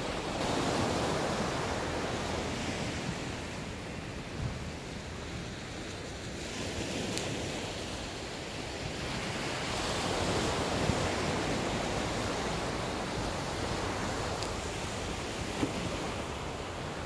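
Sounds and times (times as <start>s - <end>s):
surf waves washing on beach: 0.0s - 17.0s.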